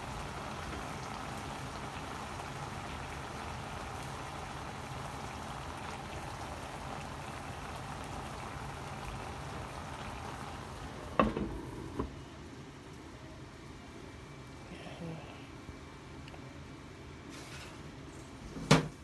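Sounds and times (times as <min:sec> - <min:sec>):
stew bubbling in a pan: 0:00.0 - 0:18.0.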